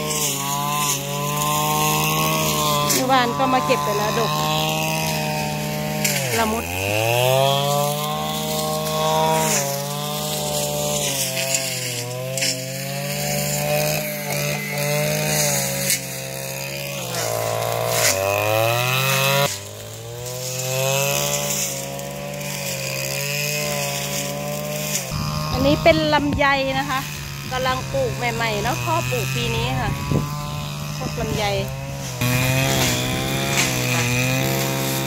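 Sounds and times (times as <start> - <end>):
grass cutter engine revving: 0.0 - 35.0.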